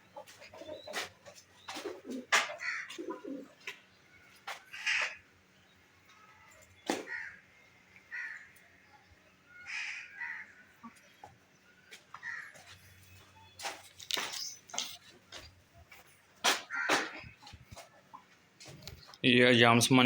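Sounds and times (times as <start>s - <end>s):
chickens and birds calling: 0.0s - 19.2s.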